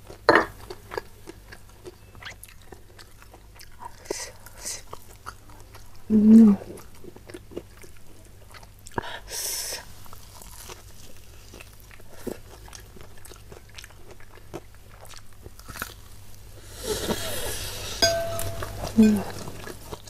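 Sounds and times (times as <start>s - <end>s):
chewing with mouth clicks: 0.0s - 9.1s, 10.0s - 16.2s, 18.0s - 20.0s.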